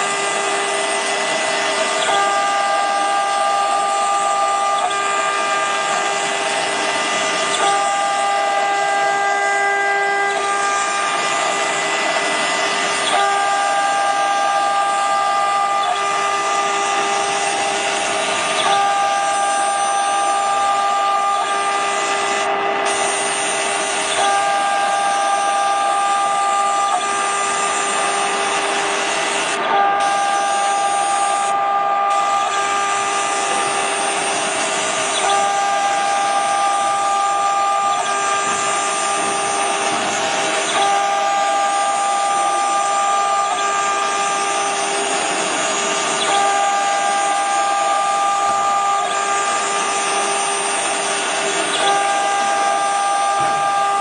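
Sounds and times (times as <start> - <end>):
engraving machine whine: 0.0 - 54.0.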